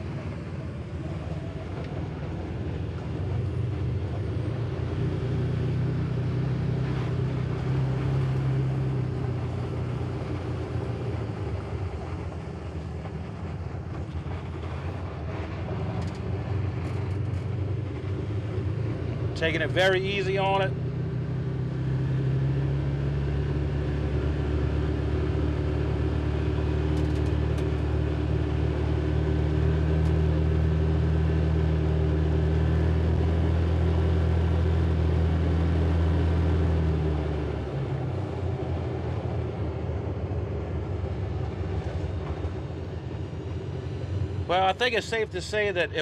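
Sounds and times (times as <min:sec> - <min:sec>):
vehicle engine low drone: 0:00.0 - 0:46.0.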